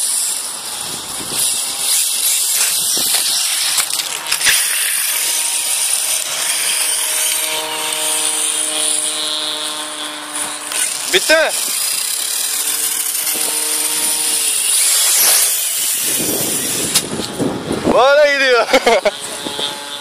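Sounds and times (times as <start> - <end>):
electric motor whine: 0.0 - 20.0
rc car running over grass: 0.0 - 20.0.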